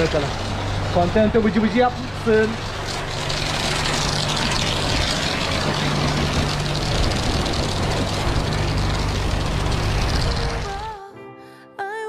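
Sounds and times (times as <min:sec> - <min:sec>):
pressure washer motor drone: 0:00.0 - 0:10.9.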